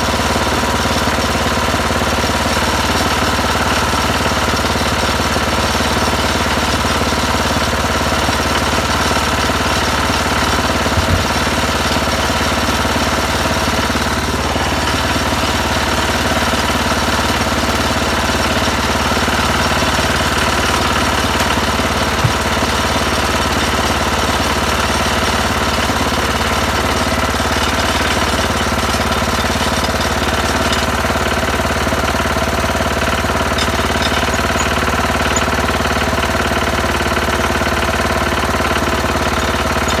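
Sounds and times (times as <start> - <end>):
garden tractor engine running: 0.0 - 40.0.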